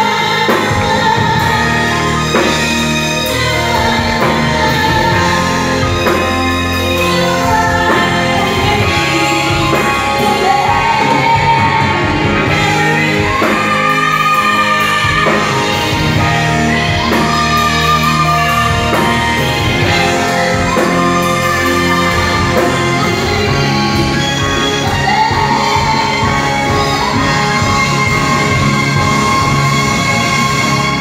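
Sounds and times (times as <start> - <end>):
loud backing music: 0.0 - 31.0
woman singing into microphone: 0.0 - 31.0.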